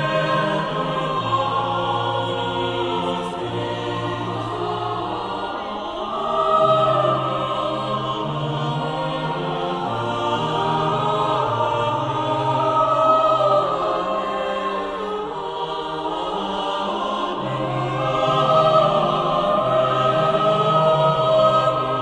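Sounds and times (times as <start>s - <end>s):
choir singing held notes: 0.0s - 22.0s.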